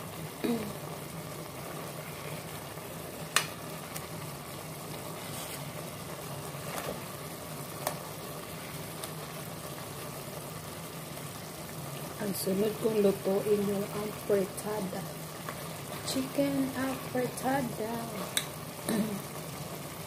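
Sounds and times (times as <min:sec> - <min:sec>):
stew bubbling in a pot: 0:00.0 - 0:20.0.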